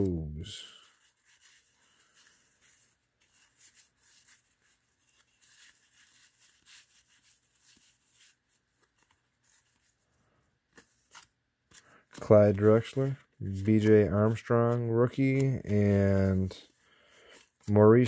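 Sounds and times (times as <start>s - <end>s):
cards flipped by hand: 0.0s - 10.1s, 10.7s - 18.0s.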